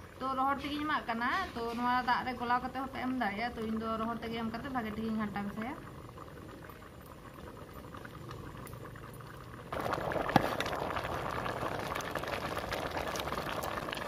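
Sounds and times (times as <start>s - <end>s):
food bubbling in a pot: 0.0s - 14.0s.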